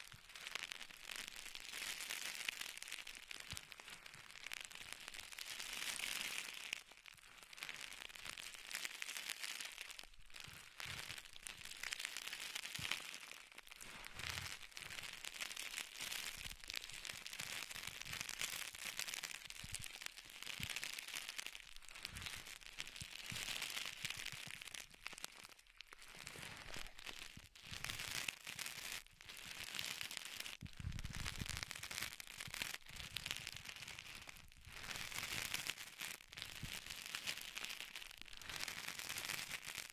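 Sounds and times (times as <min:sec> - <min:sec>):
crinkling and crackling: 0:00.0 - 0:39.9.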